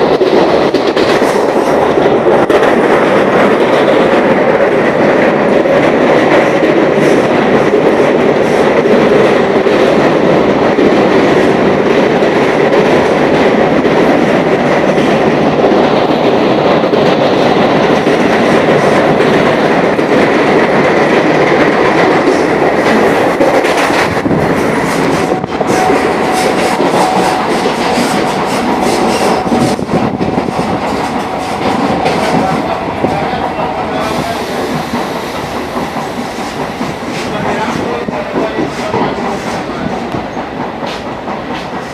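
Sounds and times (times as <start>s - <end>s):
clacks over rail joints: 0.0s - 41.9s
train wheels rumbling on rails: 0.0s - 41.9s.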